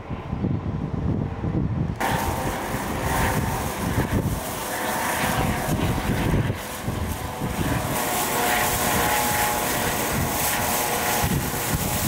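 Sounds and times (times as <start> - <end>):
helicopter rotor rumble: 0.0 - 12.0
helicopter turbine whine: 0.0 - 12.0.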